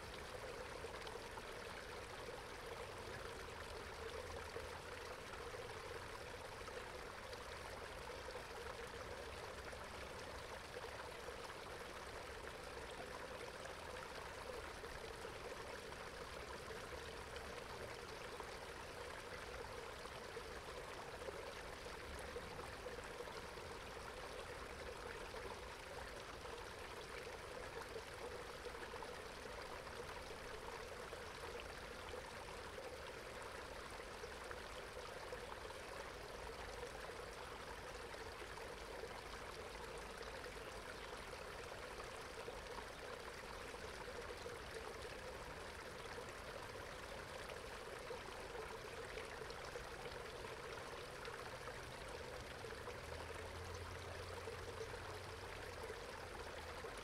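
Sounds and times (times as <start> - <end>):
water trickling over rocks: 0.0 - 57.0.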